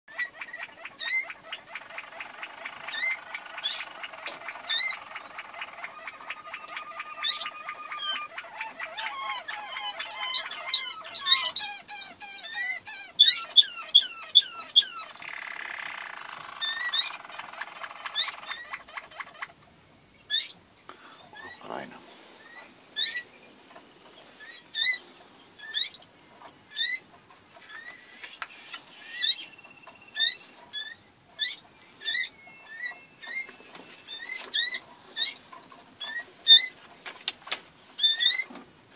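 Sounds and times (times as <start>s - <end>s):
canaries singing trills: 0.1s - 38.9s.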